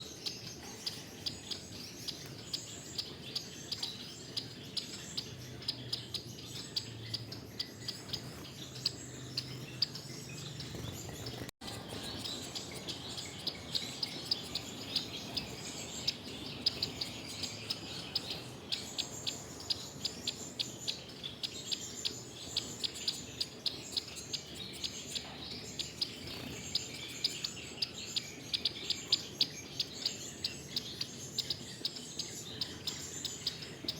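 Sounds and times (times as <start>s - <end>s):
finches chirping: 0.0s - 33.9s.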